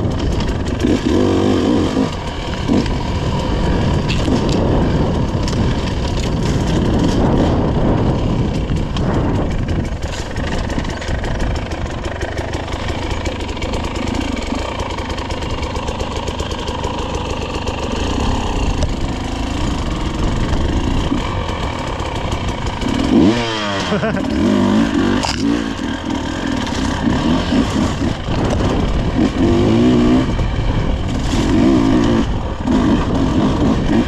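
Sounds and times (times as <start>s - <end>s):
dirt bike engine: 0.0s - 34.0s.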